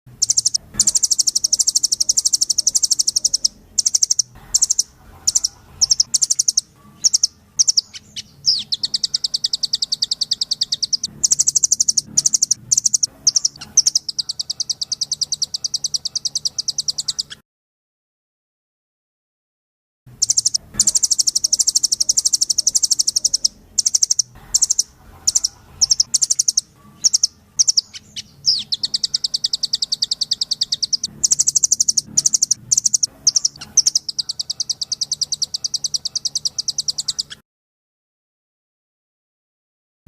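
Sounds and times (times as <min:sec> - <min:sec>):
bird singing rapid trills: 0:00.1 - 0:17.4, 0:20.2 - 0:37.4.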